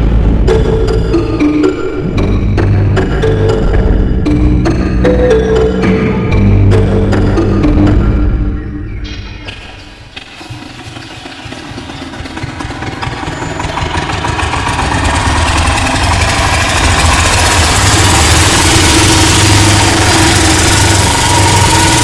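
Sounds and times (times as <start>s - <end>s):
small diesel engine starting: 0.4s - 8.3s, 9.3s - 22.0s.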